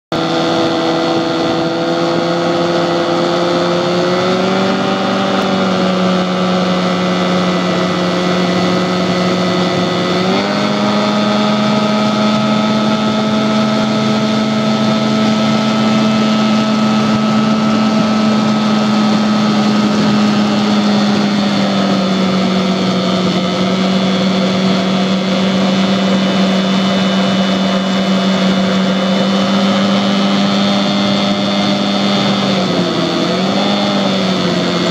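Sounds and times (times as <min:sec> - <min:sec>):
outboard motor running: 0:00.1 - 0:34.9.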